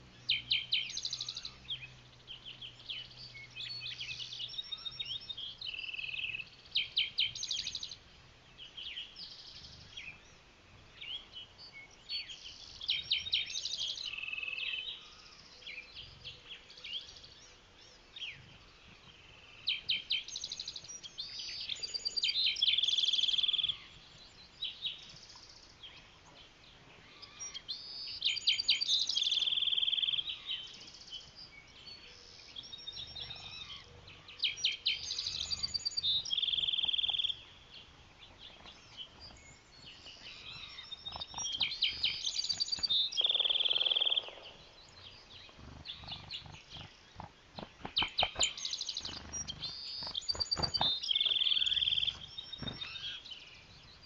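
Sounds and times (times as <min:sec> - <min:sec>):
quieter bird calls: 0:00.0 - 0:54.0.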